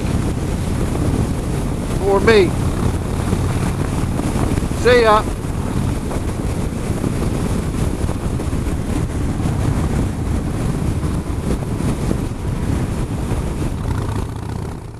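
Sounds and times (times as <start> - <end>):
heavy wind noise on microphone: 0.0 - 14.9
motorcycle engine running: 0.0 - 14.9.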